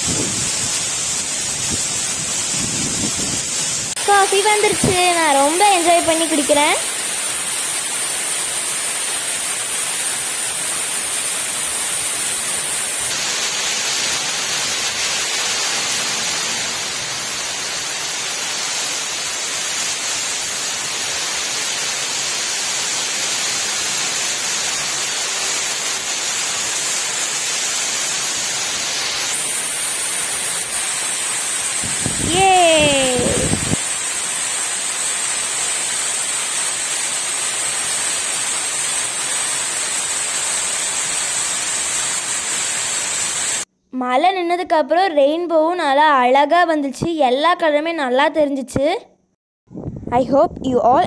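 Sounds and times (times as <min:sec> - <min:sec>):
heavy rain on palms: 0:00.0 - 0:43.7.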